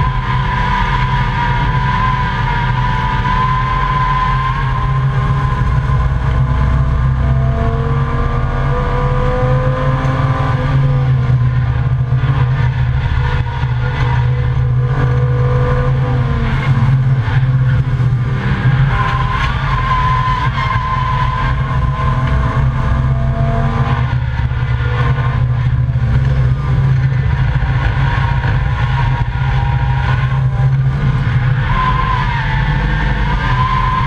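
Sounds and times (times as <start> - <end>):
car engine pulling hard: 0.0 - 34.0
road and wind rumble: 0.0 - 34.0.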